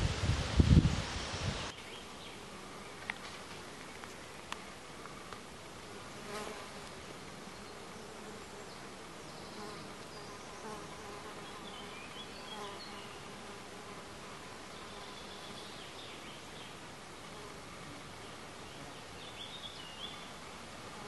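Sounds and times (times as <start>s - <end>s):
flying insects buzzing: 0.0s - 21.0s.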